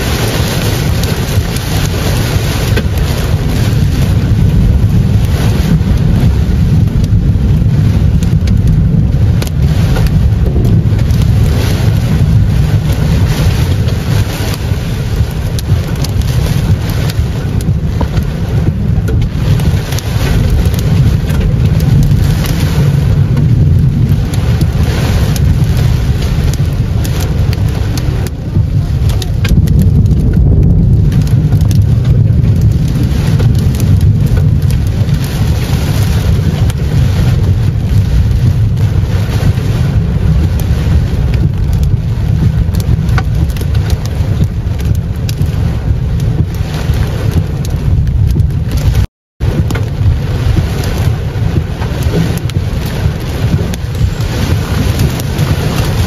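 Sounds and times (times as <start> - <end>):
car and road rumble: 0.0 - 56.0
heavy rain on car roof: 0.0 - 56.0.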